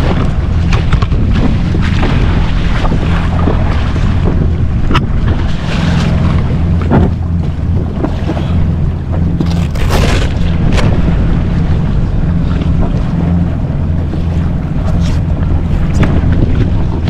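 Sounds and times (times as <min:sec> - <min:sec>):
jet ski engine humming: 0:00.0 - 0:17.0
water noise: 0:00.0 - 0:17.0
wind buffeting microphone: 0:00.0 - 0:17.0.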